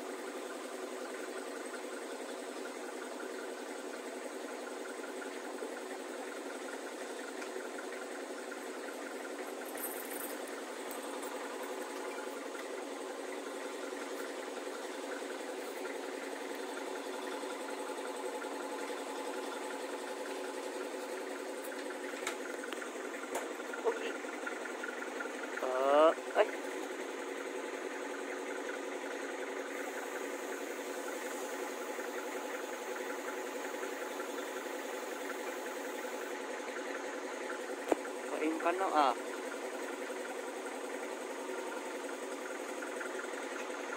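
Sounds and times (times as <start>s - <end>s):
steady mechanical drone: 0.0s - 43.9s
vehicle engine idling: 0.0s - 43.9s.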